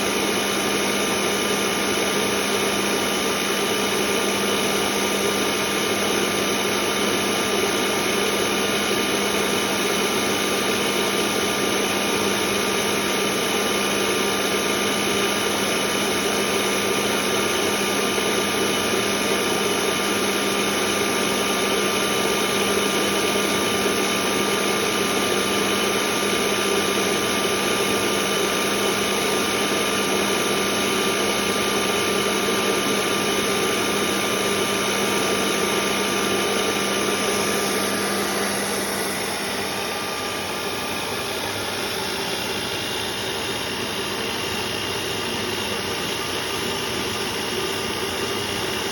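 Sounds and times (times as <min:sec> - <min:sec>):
grinder motor hum and whine: 0:00.0 - 0:48.9.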